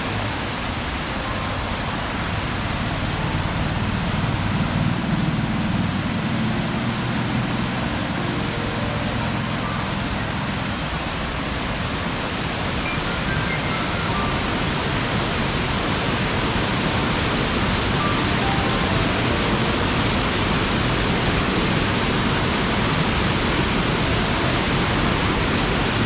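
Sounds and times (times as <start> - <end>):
waterfall rushing and splashing: 0.0 - 26.0.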